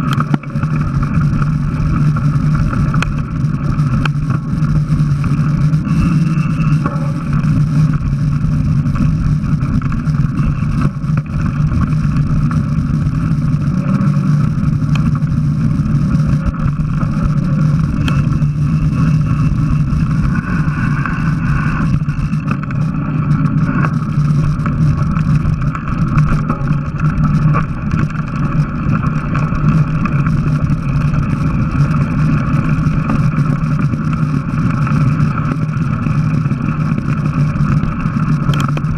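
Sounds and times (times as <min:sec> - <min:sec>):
tyres rolling over dirt: 0:00.0 - 0:38.9
wind rushing over microphone: 0:00.0 - 0:38.9.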